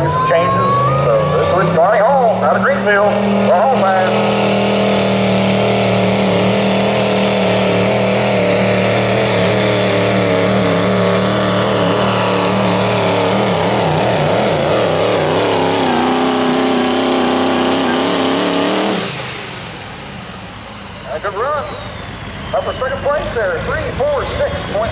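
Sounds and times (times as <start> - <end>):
diesel truck engine at full throttle: 0.0 - 24.9.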